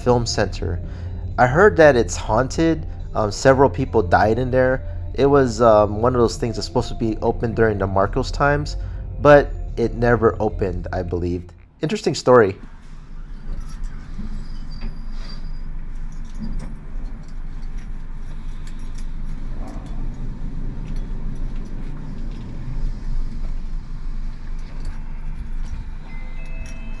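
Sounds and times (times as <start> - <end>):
elevator rumble and hum: 0.0 - 27.0.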